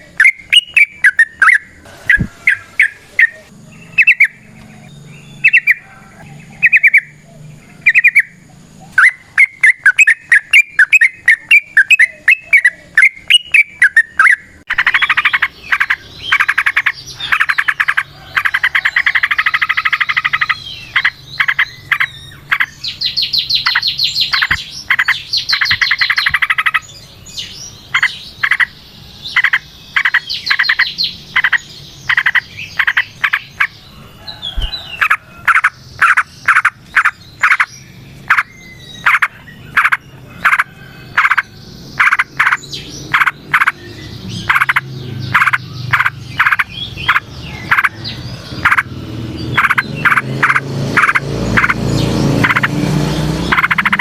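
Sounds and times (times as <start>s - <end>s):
bulbul singing trilled song: 0.0s - 54.0s.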